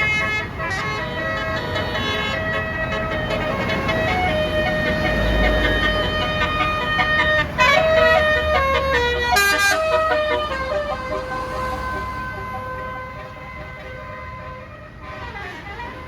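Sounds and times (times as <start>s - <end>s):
bus air horn melody: 0.0s - 16.0s.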